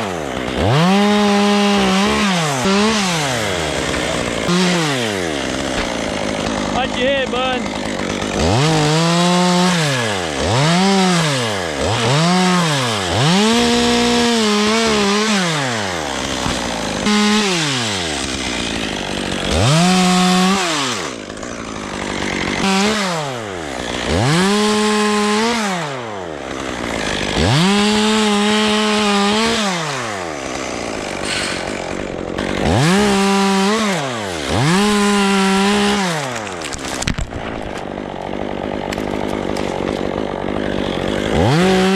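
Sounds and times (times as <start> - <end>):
chainsaw revving cutting wood: 0.0 - 41.9.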